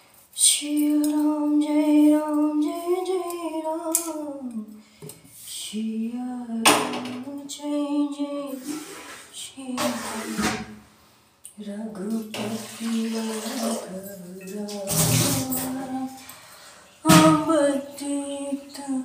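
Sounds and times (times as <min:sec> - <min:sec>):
woman singing devotional chant: 0:00.4 - 0:04.8, 0:05.5 - 0:08.8, 0:09.4 - 0:10.8, 0:11.6 - 0:16.4, 0:17.0 - 0:19.0.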